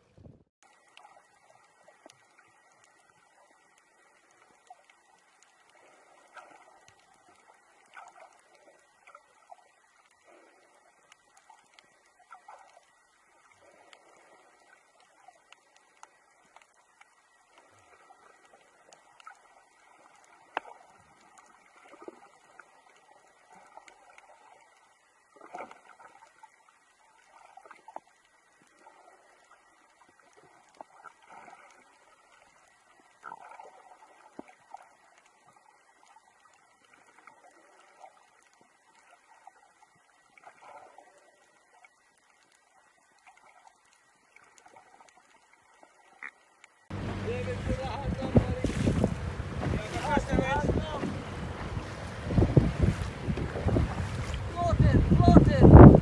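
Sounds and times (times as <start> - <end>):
underwater gurgles and clicks: 0.0 - 56.0.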